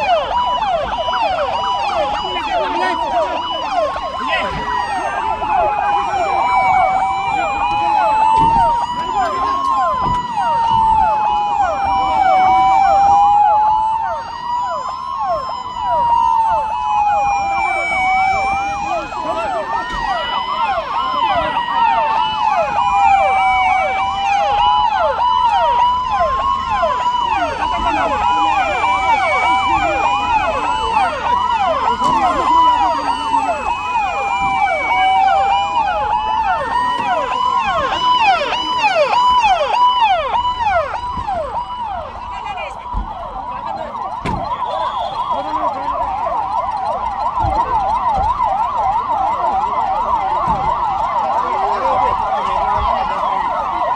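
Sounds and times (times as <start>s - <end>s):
quick siren sweeps: 0.0s - 53.9s
slow wailing siren: 0.0s - 53.9s.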